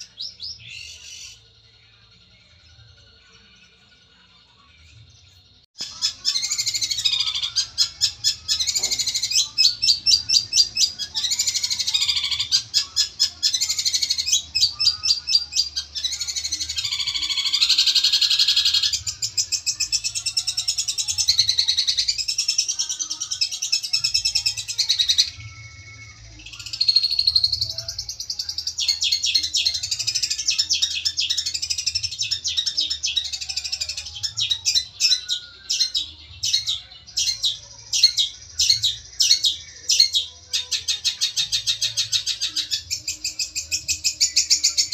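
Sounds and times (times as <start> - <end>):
shrike singing chattering song: 5.8 - 44.9.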